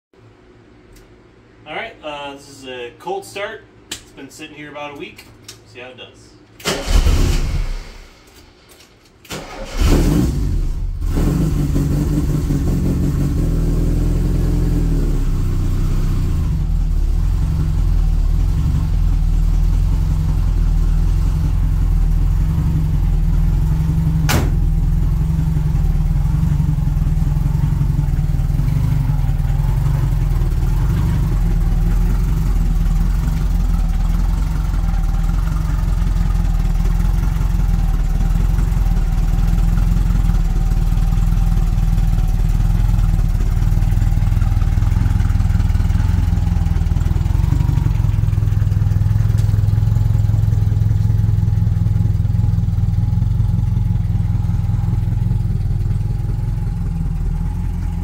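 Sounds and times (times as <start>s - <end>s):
engine idling: 9.3s - 58.0s.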